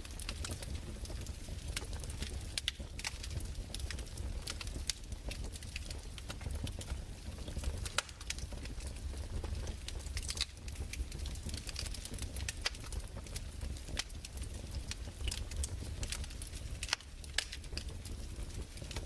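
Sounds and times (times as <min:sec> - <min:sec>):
fireplace fire crackling: 0:00.0 - 0:19.0.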